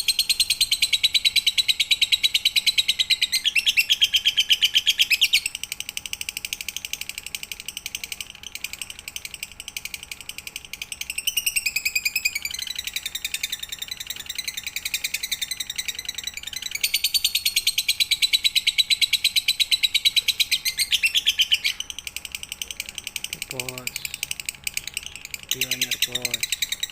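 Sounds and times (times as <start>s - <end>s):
lovebird trilling chirps: 0.0s - 5.6s, 6.6s - 26.9s.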